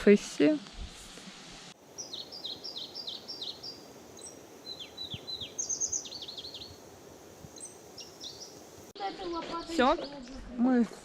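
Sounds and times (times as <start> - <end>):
faint outdoor hiss: 0.0 - 11.0
songbird singing: 1.8 - 10.8.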